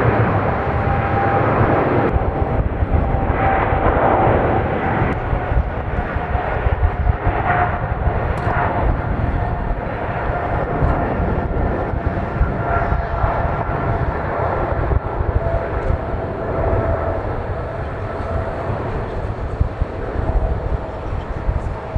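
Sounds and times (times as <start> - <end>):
jet engines at takeoff: 0.0 - 21.9.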